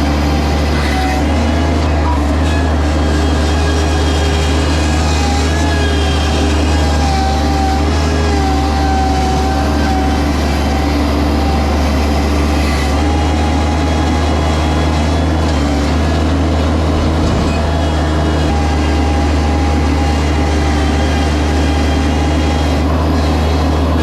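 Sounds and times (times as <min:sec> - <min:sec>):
mini skidsteer engine hum: 0:00.0 - 0:24.0
thin engine whine: 0:00.0 - 0:24.0.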